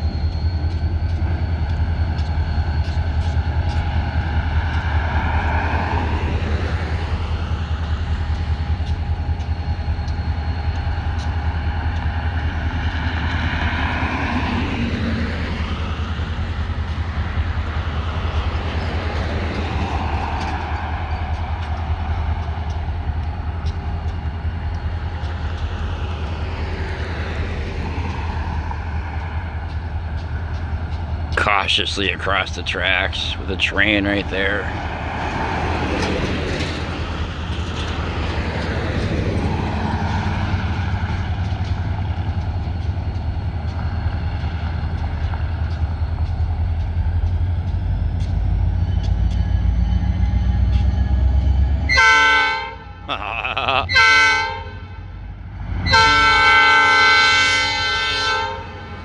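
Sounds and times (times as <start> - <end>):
diesel locomotive rumble: 0.0 - 59.0
road vehicles passing: 2.8 - 59.0.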